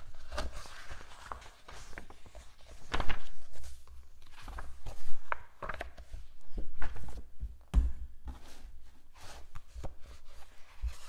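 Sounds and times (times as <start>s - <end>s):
book pages rustling: 0.0s - 7.6s, 8.2s - 11.0s.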